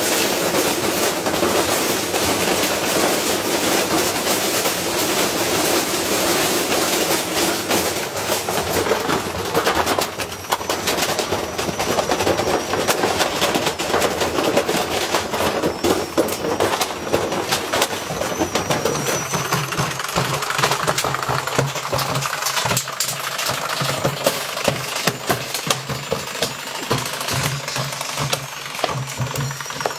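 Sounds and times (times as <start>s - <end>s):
washing machine clattering and banging: 0.0s - 29.9s.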